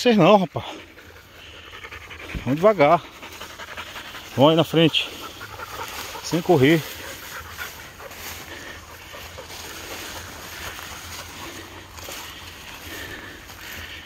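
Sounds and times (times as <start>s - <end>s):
grass rustling underfoot: 0.0s - 14.0s.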